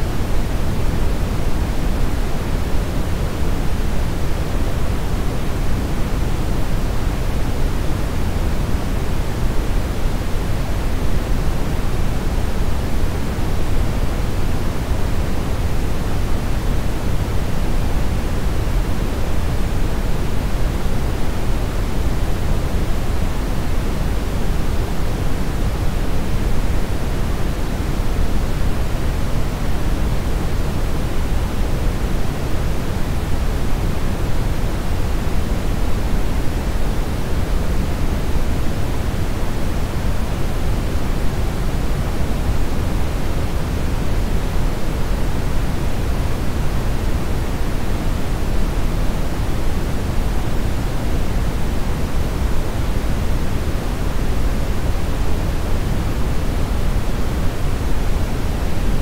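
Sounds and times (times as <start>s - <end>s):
brown noise hiss: 0.0s - 59.0s.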